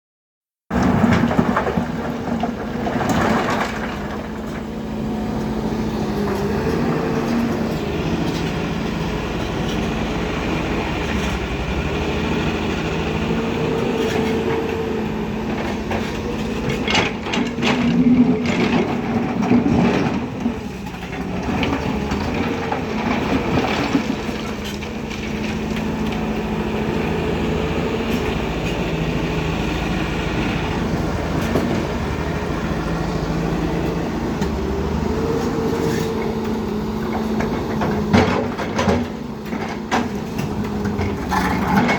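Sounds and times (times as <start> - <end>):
heavy diesel machinery engine: 0.7 - 41.9.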